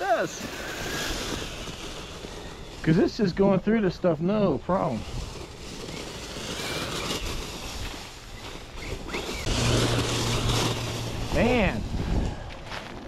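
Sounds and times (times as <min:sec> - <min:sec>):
electric drivetrain whirring: 0:00.0 - 0:13.0
tyres rustling through leaves: 0:00.0 - 0:13.0.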